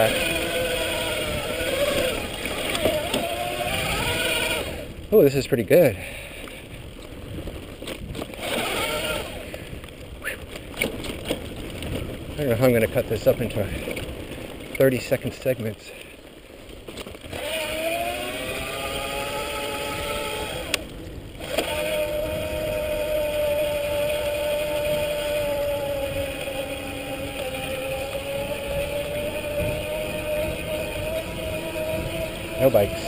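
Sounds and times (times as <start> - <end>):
electric bike motor whining: 0.0 - 5.2, 6.4 - 12.4, 16.2 - 33.0
wind noise: 0.0 - 15.3, 17.2 - 33.0.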